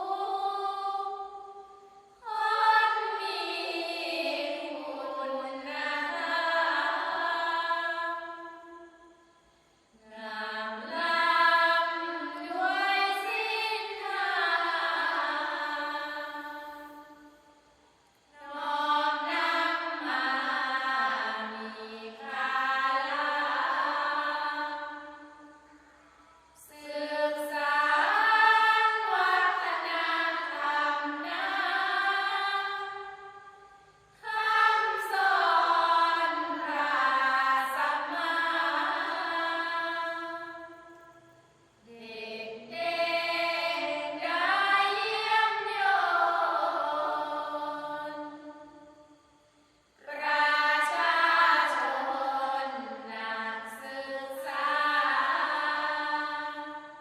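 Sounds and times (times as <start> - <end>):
group of singers chanting verse: 0.0 - 9.1, 10.0 - 17.3, 18.3 - 25.9, 26.6 - 41.0, 41.9 - 49.0, 50.0 - 57.0.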